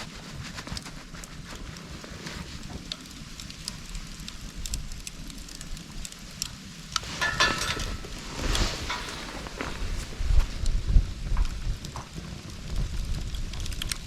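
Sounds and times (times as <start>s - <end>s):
bamboo fire crackling and popping: 0.0s - 14.0s
low fire rumble: 0.0s - 14.0s.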